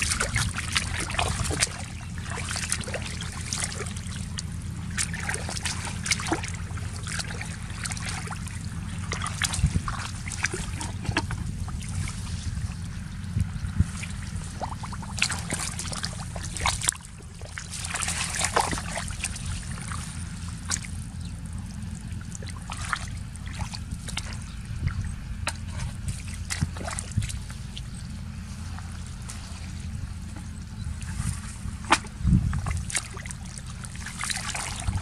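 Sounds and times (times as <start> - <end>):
hands squelching in muddy water: 0.0 - 35.0
small splashes: 0.0 - 35.0
steady low rumble: 0.0 - 35.0.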